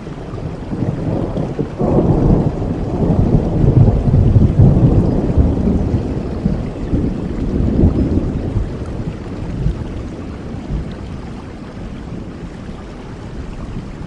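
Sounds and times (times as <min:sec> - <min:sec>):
rain: 0:00.0 - 0:14.0
thunder rumbling: 0:00.2 - 0:14.0.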